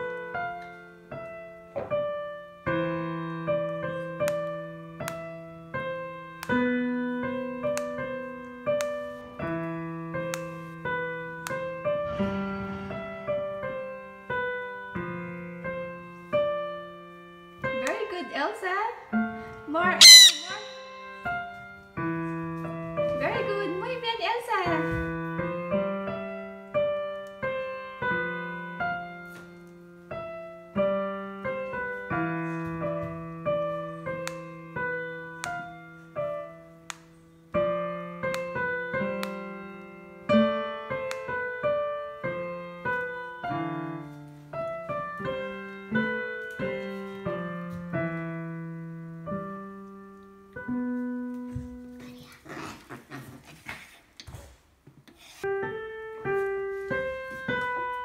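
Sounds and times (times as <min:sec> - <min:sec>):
solo piano music: 0:00.0 - 0:52.0, 0:55.4 - 0:58.0.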